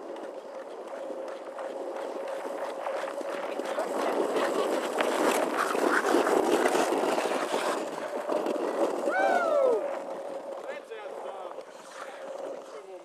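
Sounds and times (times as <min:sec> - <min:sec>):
skates scraping on ice: 0:00.0 - 0:13.0.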